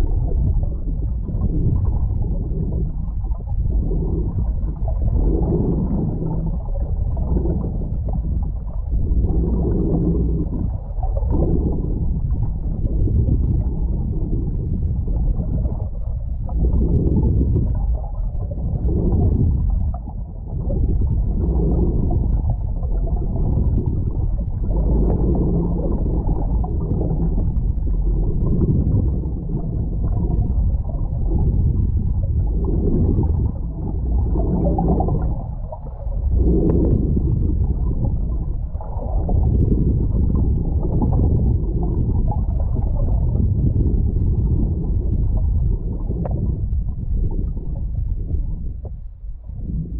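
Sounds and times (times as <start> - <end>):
muffled underwater water rush: 0.0 - 49.9.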